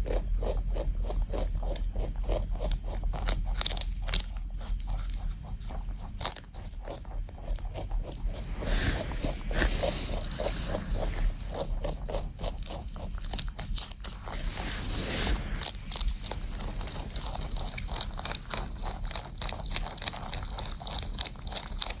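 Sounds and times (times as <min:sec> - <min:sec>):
rabbit crunching celery: 0:00.0 - 0:22.0.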